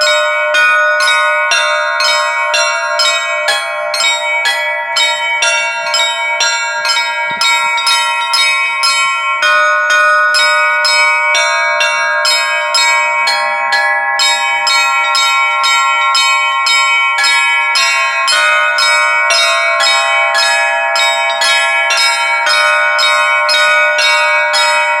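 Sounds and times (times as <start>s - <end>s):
church bells pealing: 0.0s - 25.0s.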